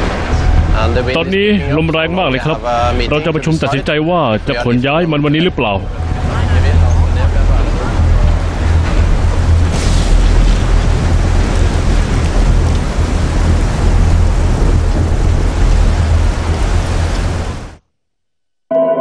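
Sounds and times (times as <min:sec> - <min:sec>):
deep continuous rumble: 0:00.0 - 0:17.8
heavy rain: 0:00.0 - 0:17.8
storm wind: 0:00.0 - 0:17.8.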